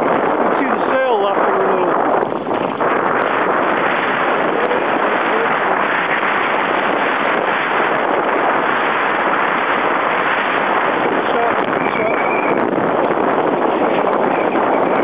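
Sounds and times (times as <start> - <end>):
strong wind: 0.0 - 15.0
water rushing around boat: 0.0 - 15.0.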